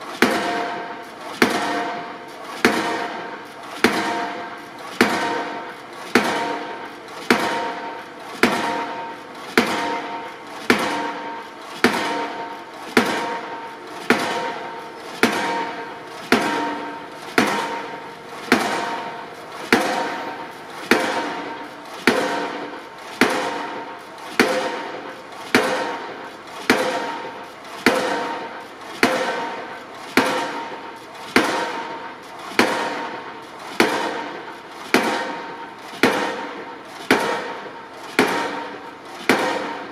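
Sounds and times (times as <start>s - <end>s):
pile hammer banging: 0.2s - 39.9s.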